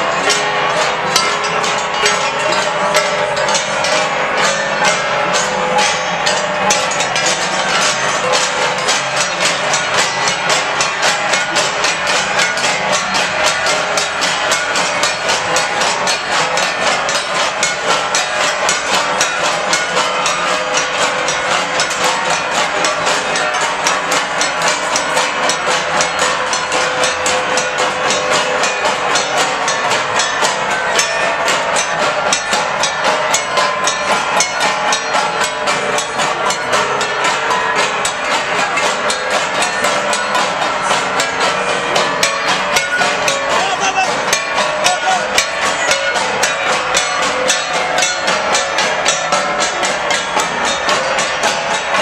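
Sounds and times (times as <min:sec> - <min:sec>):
bronze gongs beaten in rhythm: 0:00.0 - 0:52.0.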